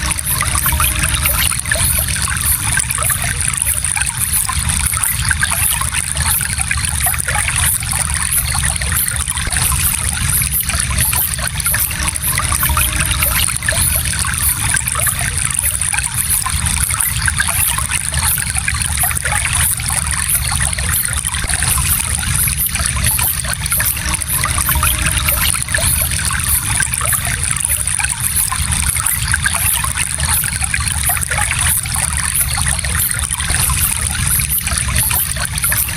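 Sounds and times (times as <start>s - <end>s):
stream trickling and babbling: 0.0s - 35.9s.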